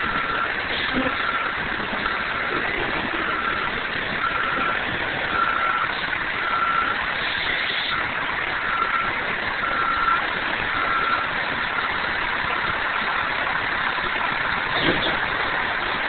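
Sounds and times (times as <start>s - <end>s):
street noise: 0.0s - 16.0s
vehicle engine running: 0.0s - 16.0s.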